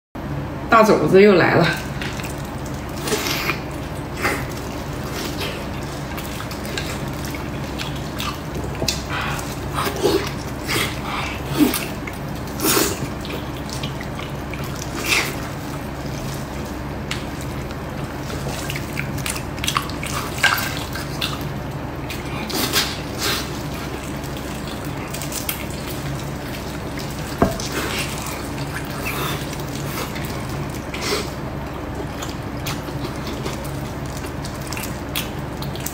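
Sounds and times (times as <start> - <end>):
steady low hum: 0.2 - 35.9
wet chewing and lip-smacking: 1.8 - 35.9.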